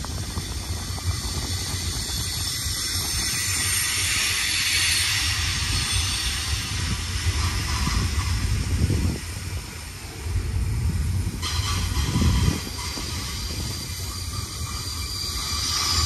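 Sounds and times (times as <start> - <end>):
broad hiss: 0.0 - 16.0
train wheels rumbling on rail: 0.0 - 16.0.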